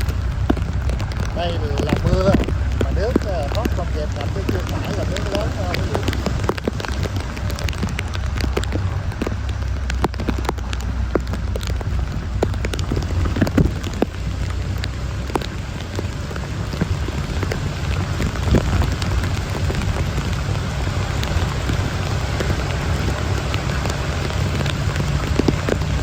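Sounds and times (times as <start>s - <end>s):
heavy rain falling: 0.0s - 26.0s
low rumble: 0.0s - 26.0s.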